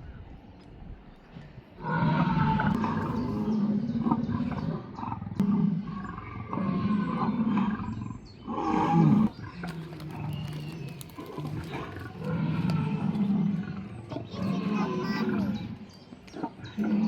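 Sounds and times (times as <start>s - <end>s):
large animal roaring and growling: 1.8s - 10.6s, 11.2s - 17.0s.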